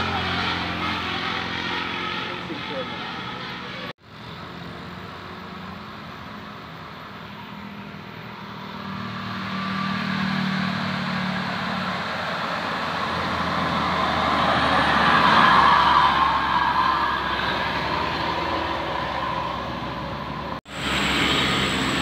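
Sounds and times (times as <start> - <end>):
bus engine hum: 0.0 - 22.0.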